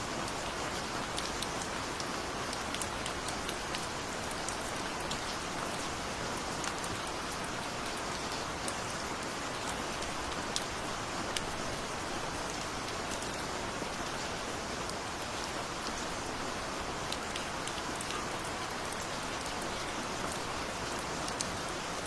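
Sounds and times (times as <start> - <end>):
steady rain hissing: 0.0 - 22.0
raindrops ticking on a surface: 0.1 - 22.0.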